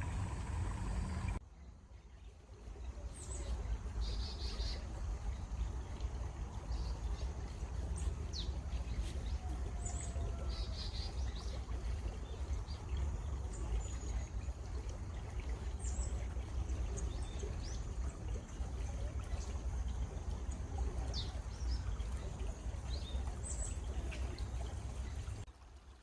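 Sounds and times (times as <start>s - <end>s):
wild birds chirping: 0.0s - 25.5s
running water rumbling: 0.0s - 26.0s.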